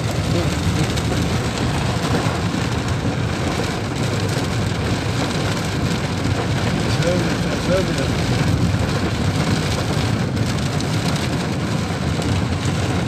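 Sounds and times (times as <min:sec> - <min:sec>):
heavy rain on a car: 0:00.0 - 0:13.0
vehicle low rumble: 0:00.0 - 0:13.0.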